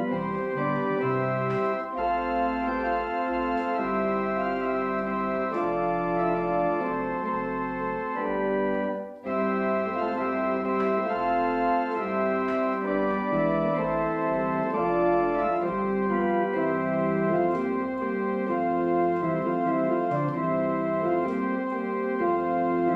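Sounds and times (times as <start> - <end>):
organ playing held chords: 0.0 - 22.9.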